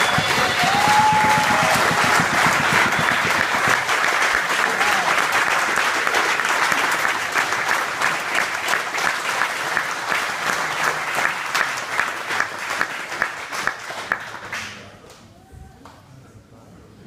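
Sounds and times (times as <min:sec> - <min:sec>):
crowd clapping: 0:00.0 - 0:14.9.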